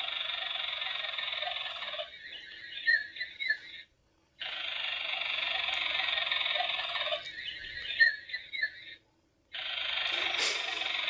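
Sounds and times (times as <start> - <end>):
recorded animal sound from speaker: 0.0 - 11.0.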